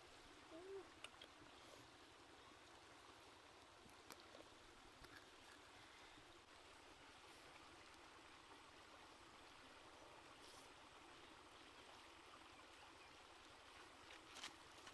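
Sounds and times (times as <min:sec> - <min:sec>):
stream flowing over rocks: 0:00.0 - 0:14.9.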